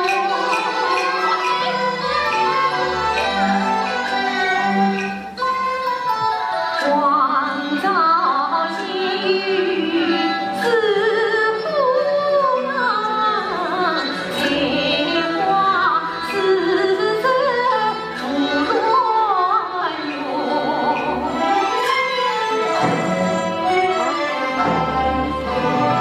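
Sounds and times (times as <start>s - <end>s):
bowed strings ensemble: 0.0s - 26.0s
woman singing opera: 0.0s - 26.0s.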